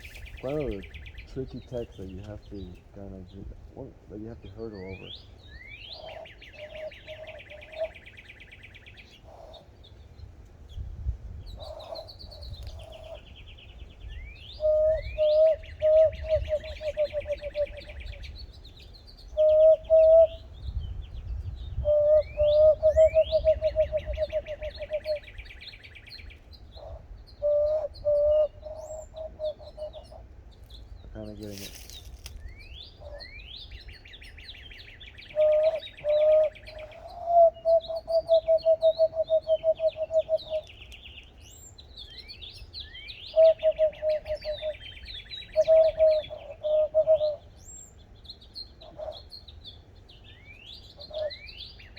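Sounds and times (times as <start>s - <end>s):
bird song with buzzy trill: 0.0s - 51.9s.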